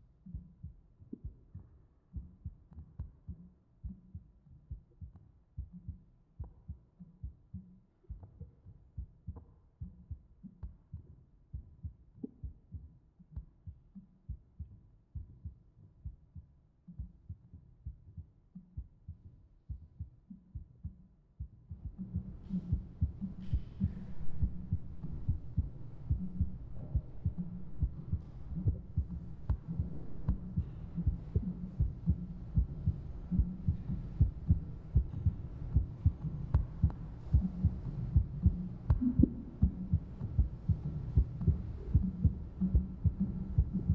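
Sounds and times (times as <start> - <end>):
heartbeat thumps: 0.0 - 43.9.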